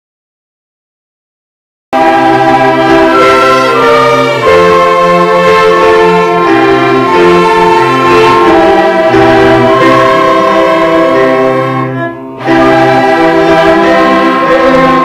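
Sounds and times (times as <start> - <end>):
orchestra playing slow chords: 2.0 - 15.0.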